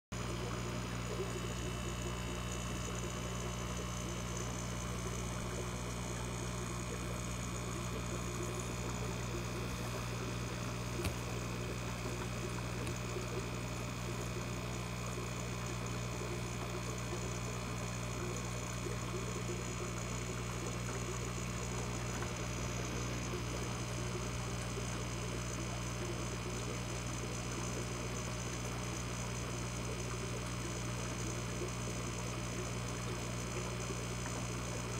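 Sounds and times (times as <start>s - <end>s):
electrical hum: 0.1s - 34.9s.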